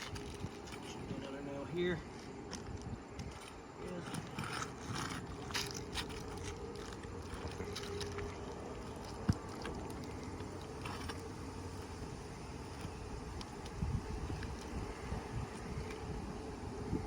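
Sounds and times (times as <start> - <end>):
background rumble: 0.0 - 17.0.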